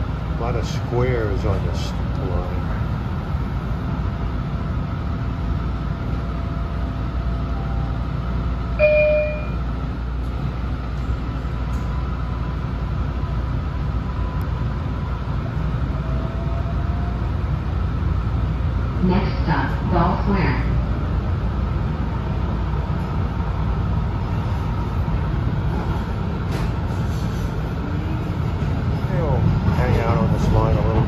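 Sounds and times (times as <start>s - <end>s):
light rail car rumbling: 0.0s - 31.0s.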